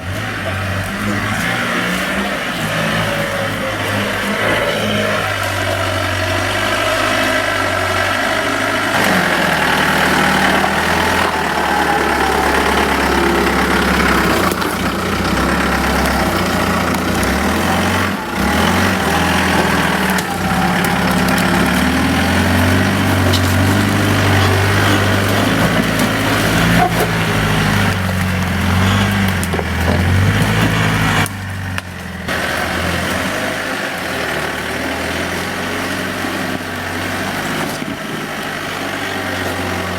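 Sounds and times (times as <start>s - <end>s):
vehicle engine at low revs: 0.0s - 39.9s.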